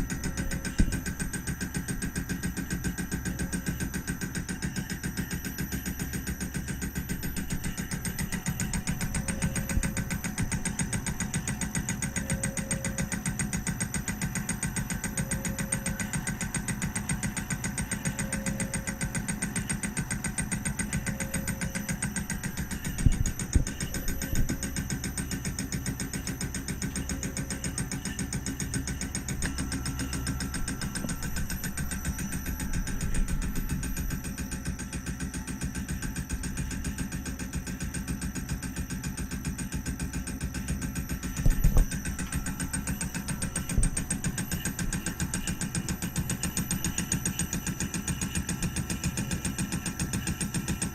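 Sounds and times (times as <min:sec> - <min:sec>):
faint machine tone: 0:00.0 - 0:50.9
milling machine running: 0:00.0 - 0:50.9.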